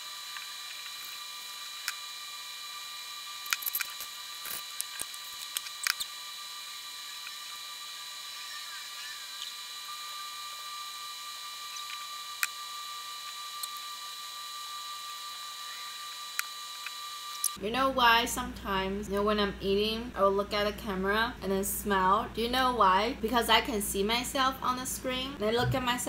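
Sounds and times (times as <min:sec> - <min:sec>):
faint electrical whine: 0:00.0 - 0:26.0.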